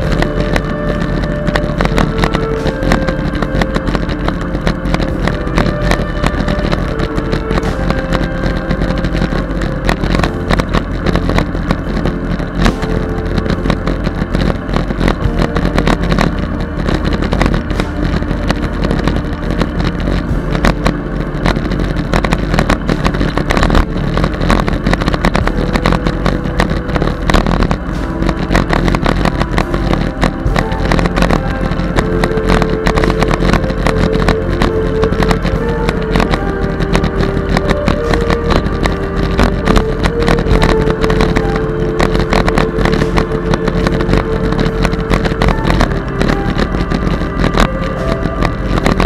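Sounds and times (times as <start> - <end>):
knocks and rattles from bicycle: 0.0 - 49.0
wind buffeting microphone: 0.0 - 49.0.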